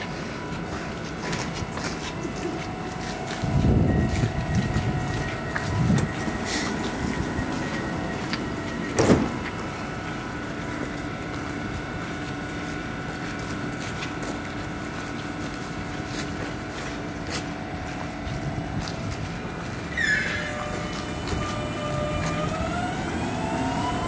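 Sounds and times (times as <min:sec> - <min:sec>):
electric train hum with high whine: 0:00.0 - 0:24.0.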